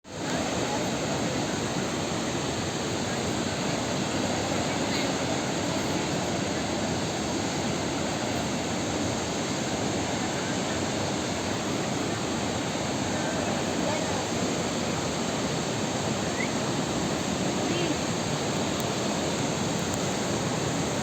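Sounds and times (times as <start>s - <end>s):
waterfall rushing: 0.1s - 21.0s.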